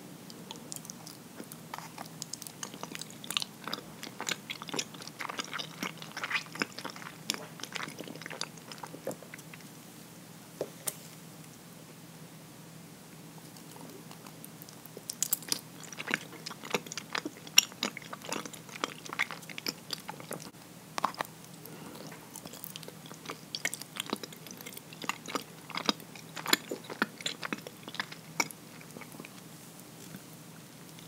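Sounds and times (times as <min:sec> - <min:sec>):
chewing with mouth clicks: 0:00.3 - 0:09.7, 0:13.4 - 0:30.3.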